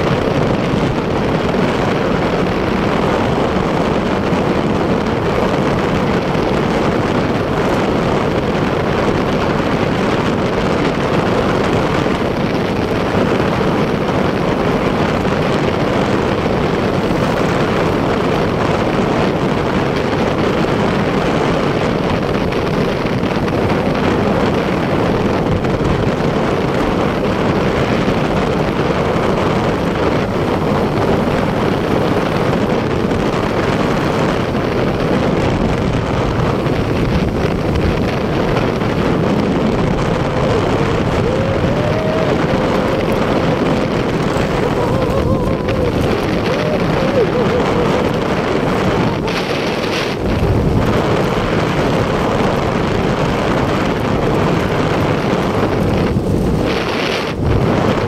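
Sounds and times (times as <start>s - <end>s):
motorcycle engine and tyres: 0.0s - 58.0s
wind rushing on microphone: 0.0s - 58.0s.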